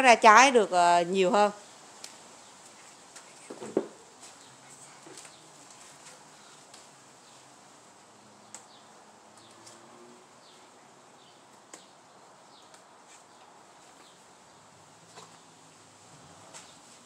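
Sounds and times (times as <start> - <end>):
small birds chirping: 1.4 - 7.7, 8.4 - 17.0.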